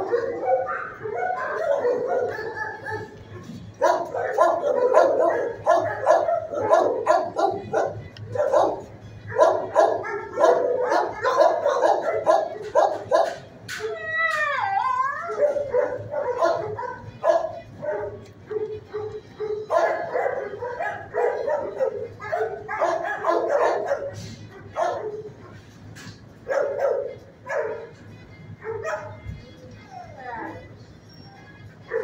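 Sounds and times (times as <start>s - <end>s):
dogs barking: 0.0s - 13.9s, 14.8s - 28.0s, 28.6s - 29.3s, 29.9s - 32.0s
dog crying: 0.0s - 25.7s, 28.6s - 32.0s.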